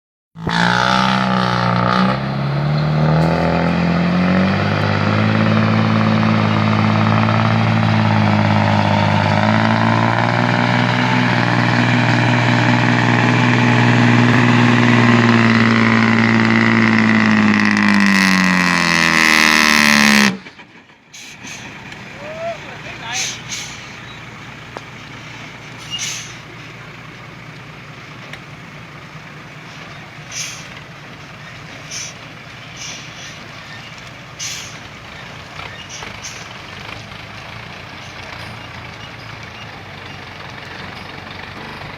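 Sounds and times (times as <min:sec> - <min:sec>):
diesel truck engine revving: 0:00.4 - 0:41.9.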